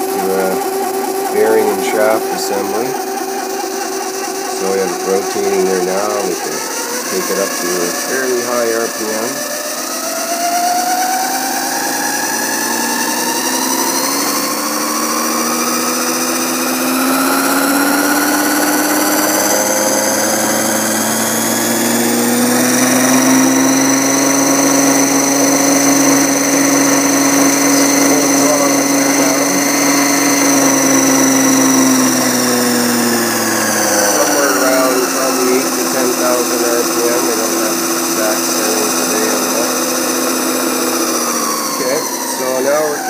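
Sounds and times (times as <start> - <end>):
sewing machine motor whining: 0.0 - 43.0.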